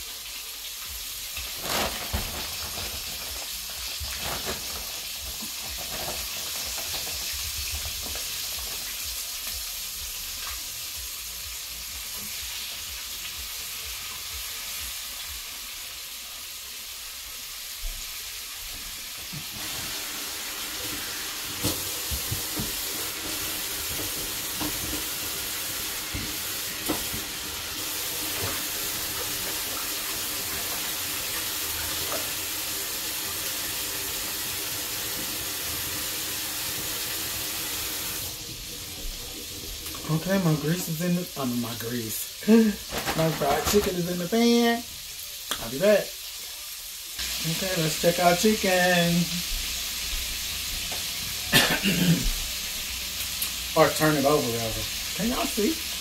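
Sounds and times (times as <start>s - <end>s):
chicken sizzling in a skillet: 0.0s - 56.0s.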